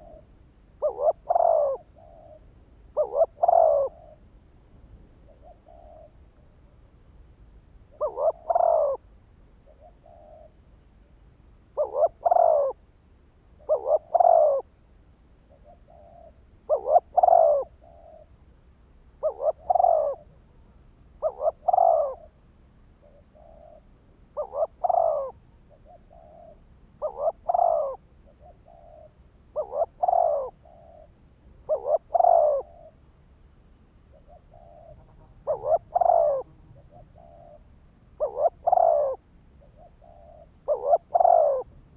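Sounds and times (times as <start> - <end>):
dove cooing: 0.0 - 4.3, 5.2 - 6.9, 7.9 - 10.6, 11.7 - 12.9, 13.6 - 14.8, 15.4 - 18.4, 19.1 - 22.4, 23.0 - 33.1, 34.1 - 41.9.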